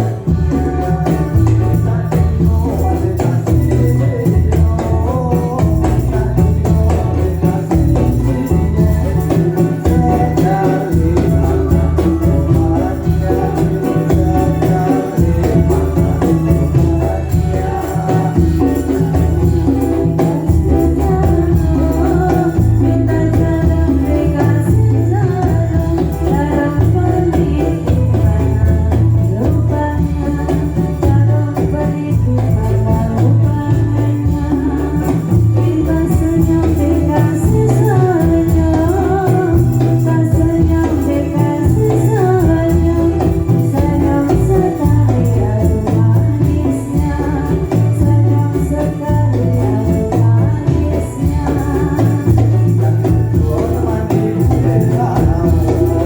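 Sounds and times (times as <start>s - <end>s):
steady low drum beat: 0.0s - 56.0s.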